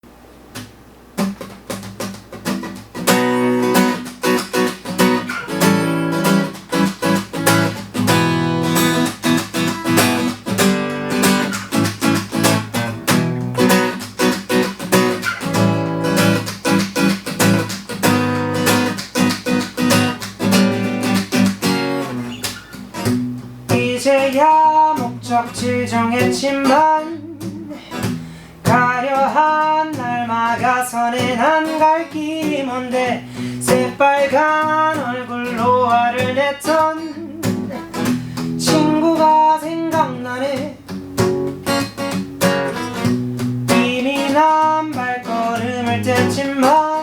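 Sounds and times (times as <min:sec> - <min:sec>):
acoustic guitar strumming: 0:00.5 - 0:47.0.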